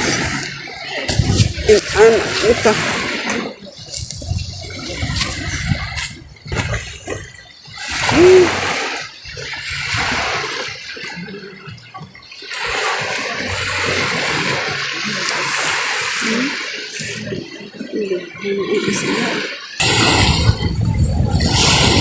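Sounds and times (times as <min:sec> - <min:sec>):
water rushing and splashing: 0:00.0 - 0:22.0.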